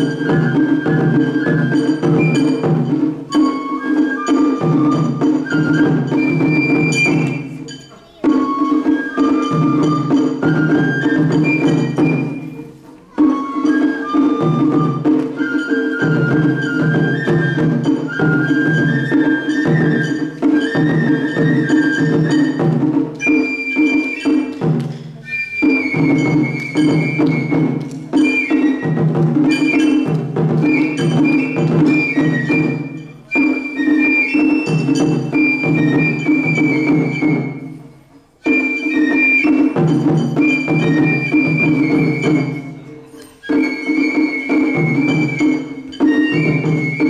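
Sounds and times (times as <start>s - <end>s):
bamboo flute melody: 0.0s - 47.0s
taiko drums beating: 0.0s - 47.0s.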